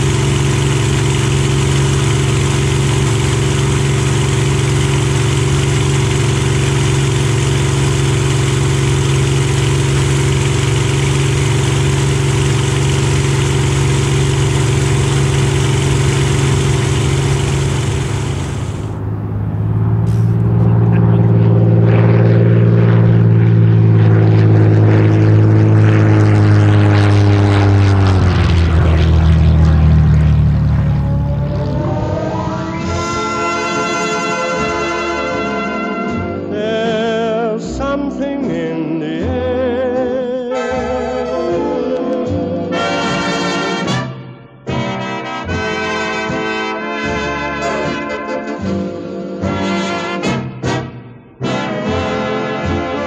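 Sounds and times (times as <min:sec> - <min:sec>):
aircraft engine drone: 0:00.0 - 0:53.0.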